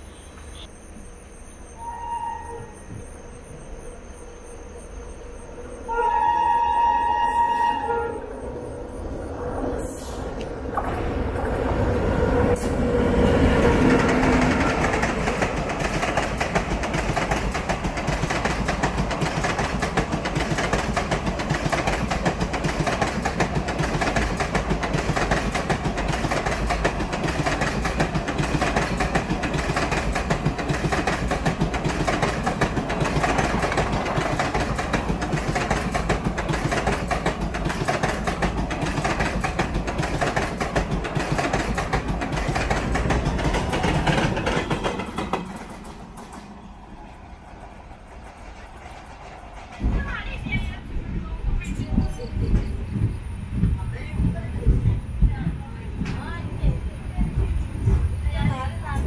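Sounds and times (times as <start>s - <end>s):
train running on rails: 0.0s - 59.0s.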